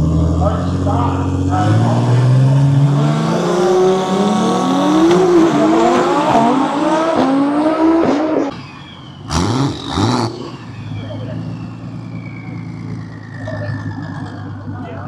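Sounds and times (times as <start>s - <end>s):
drag race cars accelerating: 0.0s - 15.0s.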